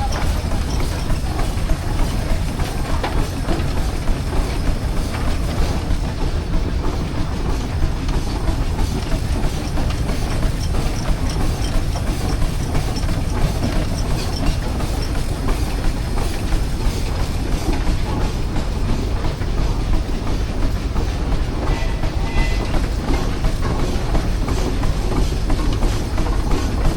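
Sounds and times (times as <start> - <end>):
rapid rattling clatter: 0.0 - 26.9.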